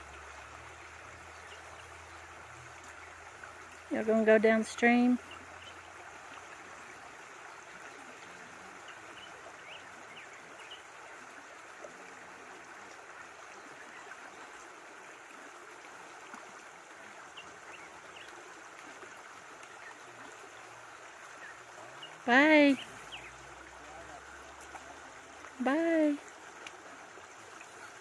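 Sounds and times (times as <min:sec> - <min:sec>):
creek babbling over stones: 0:00.0 - 0:28.0.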